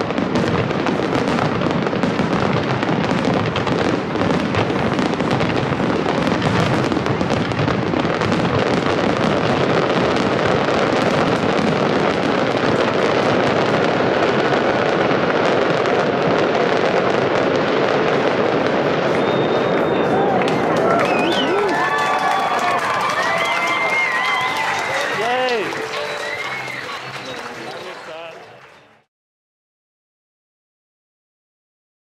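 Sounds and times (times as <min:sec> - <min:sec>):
fireworks bursts and crackling: 0:00.0 - 0:29.1.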